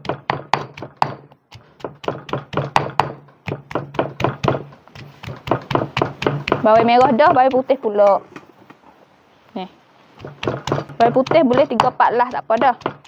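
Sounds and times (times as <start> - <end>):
pestle pounding in stone mortar: 0.0 - 8.2, 10.1 - 13.0.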